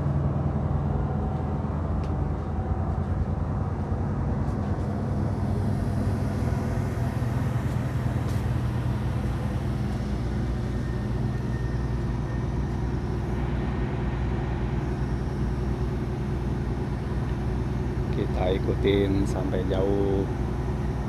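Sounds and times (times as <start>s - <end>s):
large engine droning: 0.0s - 21.0s.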